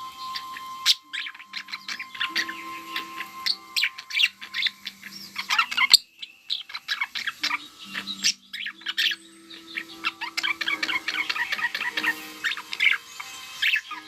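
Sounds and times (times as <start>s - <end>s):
budgerigars chattering: 0.0s - 14.0s.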